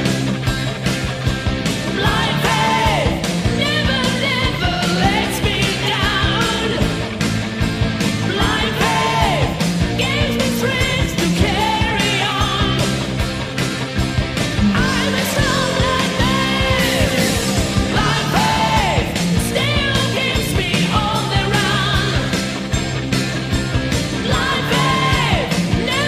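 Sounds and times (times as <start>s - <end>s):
hard rock music playing loudly: 0.0s - 26.0s
wavering lead guitar line: 0.0s - 26.0s.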